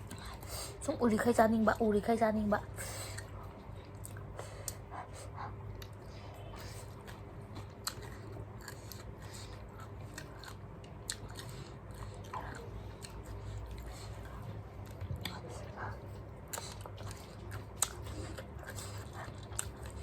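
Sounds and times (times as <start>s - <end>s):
person chewing crunchy food: 3.0s - 20.0s.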